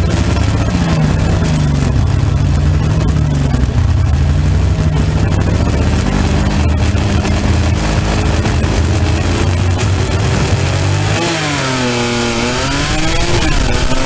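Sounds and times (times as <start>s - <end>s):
dragster engine idling loudly: 0.0s - 14.0s.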